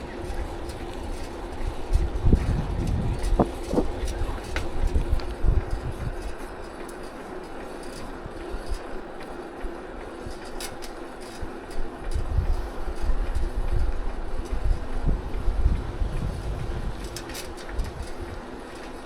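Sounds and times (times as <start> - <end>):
bicycle rolling noise: 0.0 - 19.0
wind buffeting microphone: 0.0 - 19.0.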